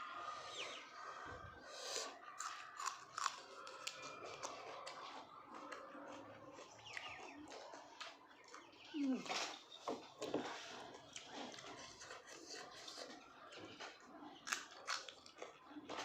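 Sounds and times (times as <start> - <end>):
person chewing and crunching meat: 1.8 - 16.0.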